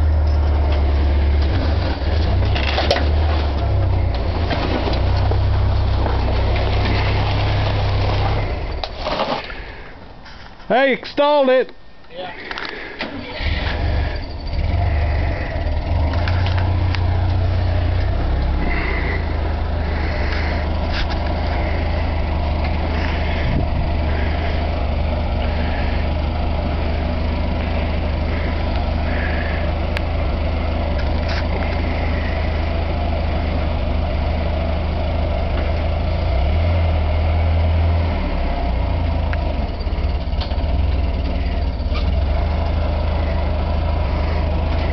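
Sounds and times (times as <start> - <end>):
heavy machine engine running: 0.0 - 10.3, 12.7 - 44.9.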